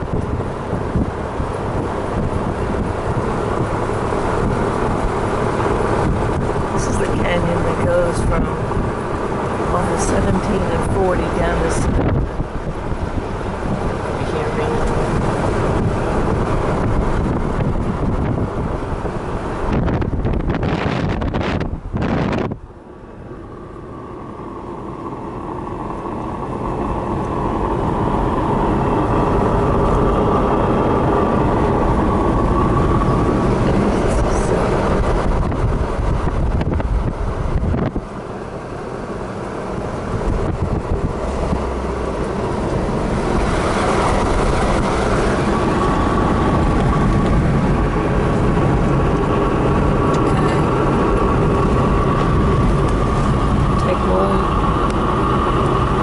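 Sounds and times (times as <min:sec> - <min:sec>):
road and wind noise in car: 0:00.0 - 0:56.0.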